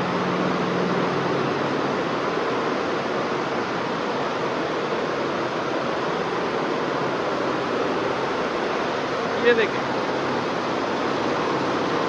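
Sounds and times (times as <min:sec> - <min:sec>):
embroidery machines running: 0:00.0 - 0:12.0.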